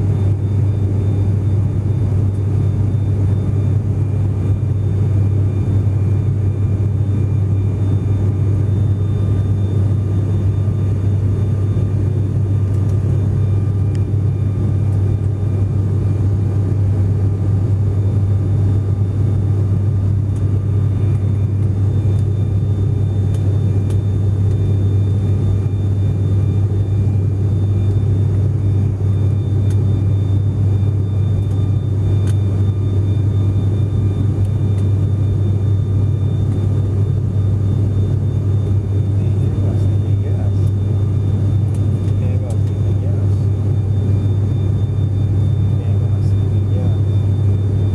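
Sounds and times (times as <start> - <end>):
aircraft cabin drone: 0.0 - 47.9
faint steady whine: 0.0 - 47.9.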